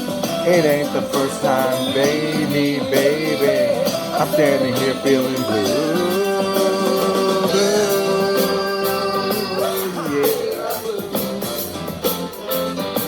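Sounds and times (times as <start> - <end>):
rock song with singing: 0.0 - 12.8.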